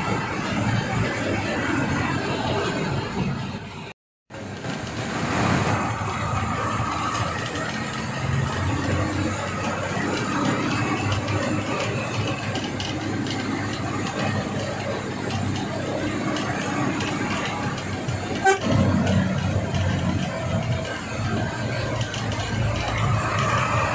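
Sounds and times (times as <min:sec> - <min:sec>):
bus engine running: 0:00.0 - 0:23.9
road noise: 0:00.0 - 0:23.9.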